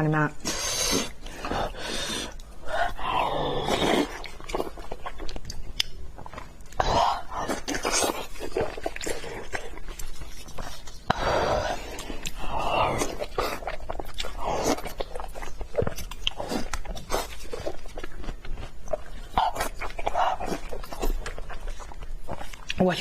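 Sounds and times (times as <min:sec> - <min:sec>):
person chewing and biting: 0:00.4 - 0:22.8.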